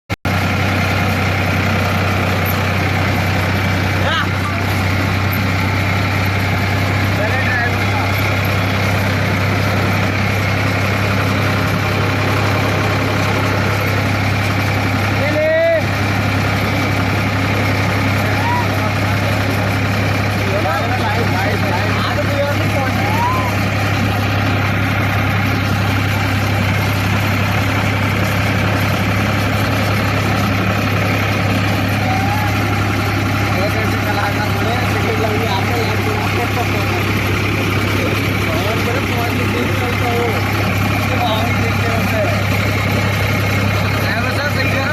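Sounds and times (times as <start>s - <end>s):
tractor engine running: 0.2s - 44.9s.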